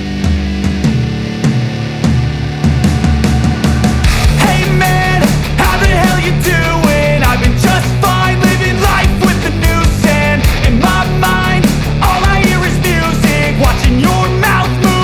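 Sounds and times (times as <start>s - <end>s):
distorted guitars: 0.0s - 15.0s
driving drum beat: 0.0s - 15.0s
loud rock music: 0.0s - 15.0s.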